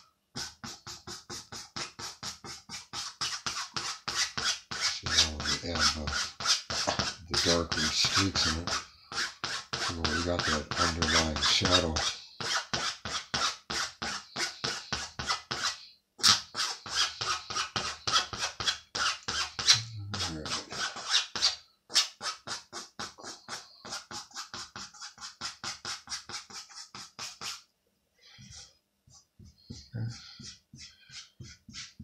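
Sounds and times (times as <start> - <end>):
pencil scratching on paper: 0.0 - 27.7, 28.4 - 32.0.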